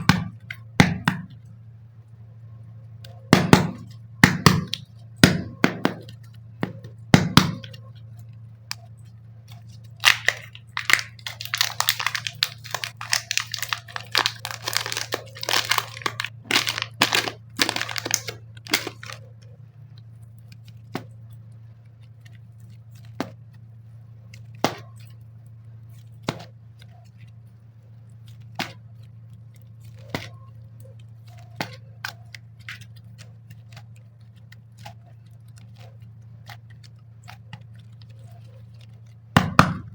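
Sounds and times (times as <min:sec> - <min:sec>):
steady low hum: 0:00.0 - 0:39.9
plastic wrapping crinkling: 0:02.2 - 0:39.9.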